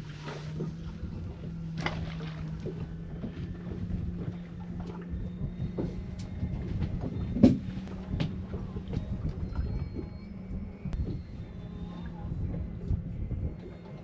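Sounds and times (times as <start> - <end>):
boat engine humming: 0.0 - 14.0
knocks and clacks from boat: 0.0 - 14.0.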